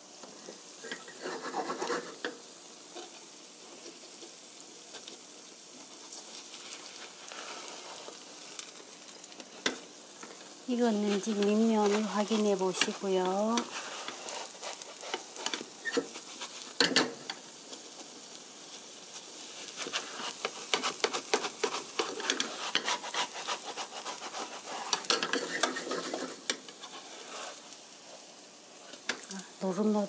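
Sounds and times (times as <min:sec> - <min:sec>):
pancake sizzling in oil: 0:00.0 - 0:30.0
spatula scraping and tapping pan: 0:00.5 - 0:05.2, 0:05.8 - 0:18.1, 0:19.2 - 0:27.7, 0:28.9 - 0:29.3.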